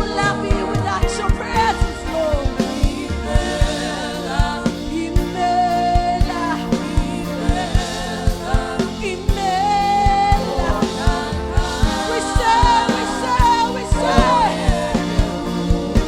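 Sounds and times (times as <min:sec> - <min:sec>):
gospel band playing: 0:00.0 - 0:16.0
person singing: 0:00.0 - 0:16.0.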